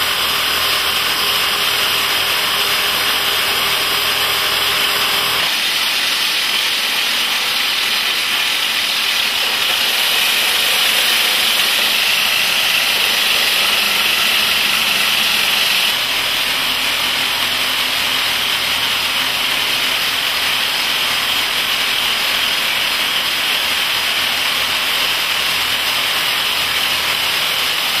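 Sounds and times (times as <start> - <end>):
hydraulic rock drills boring rock: 0.0 - 28.0.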